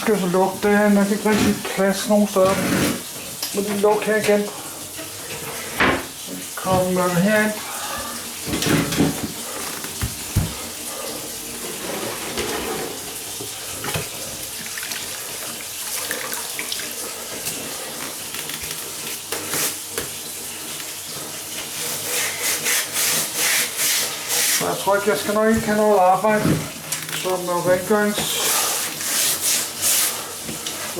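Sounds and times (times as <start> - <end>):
water running and splashing in sink: 0.0 - 30.9.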